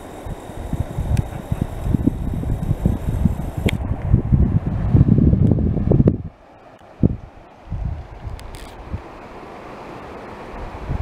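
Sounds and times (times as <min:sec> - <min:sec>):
wind buffeting microphone: 0:00.0 - 0:09.5, 0:10.5 - 0:11.0.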